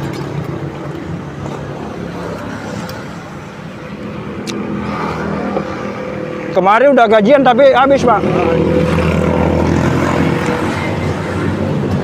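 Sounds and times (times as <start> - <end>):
passing vehicles engine hum: 0.0 - 12.0.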